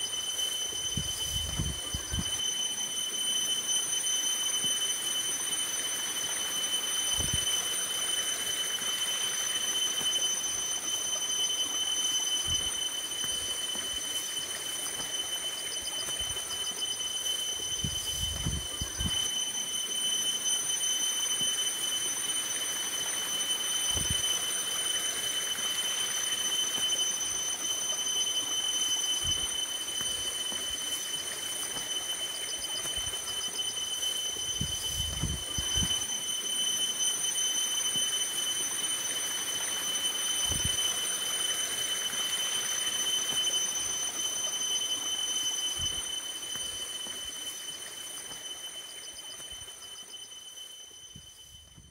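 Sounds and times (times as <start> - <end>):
steady hiss: 0.0 - 51.9
thin high tone: 0.0 - 51.9.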